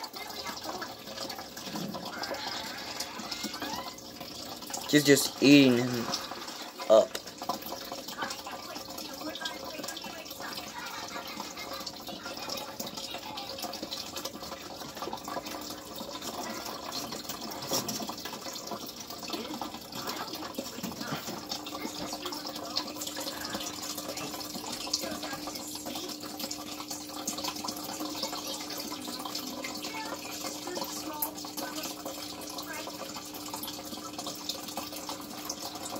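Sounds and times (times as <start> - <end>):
water drips and splashes: 0.0 - 35.9
water trickling in tank: 0.0 - 35.9.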